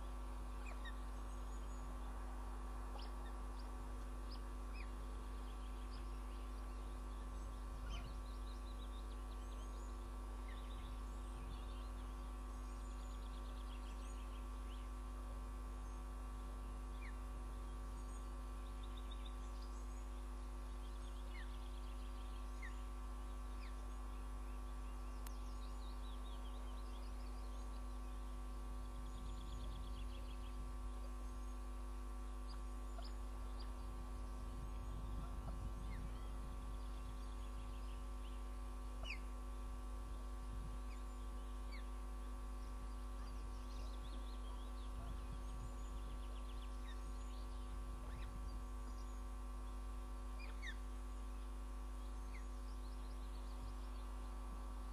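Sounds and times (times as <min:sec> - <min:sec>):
bird chirps and trills: 0:00.0 - 0:54.9
electrical mains hum: 0:00.0 - 0:54.9.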